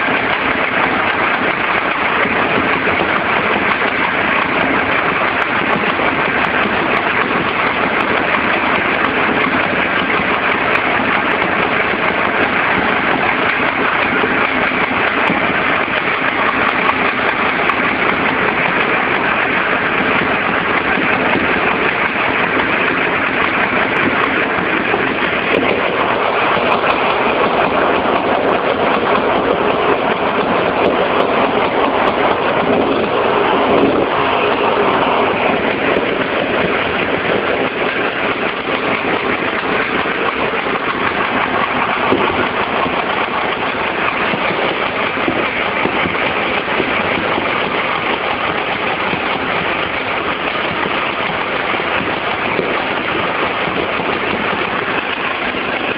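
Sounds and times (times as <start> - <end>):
two-stroke motorcycle engine running: 0.0 - 55.9.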